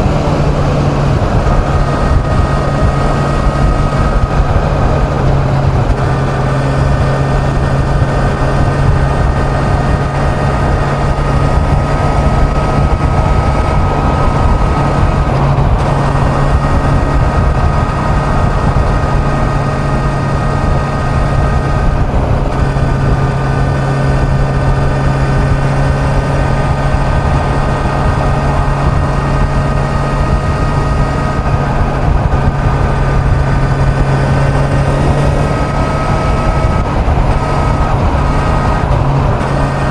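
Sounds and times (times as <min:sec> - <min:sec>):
motorcycle engine cruising: 0:00.0 - 0:39.9
wind noise rushing: 0:00.0 - 0:39.9.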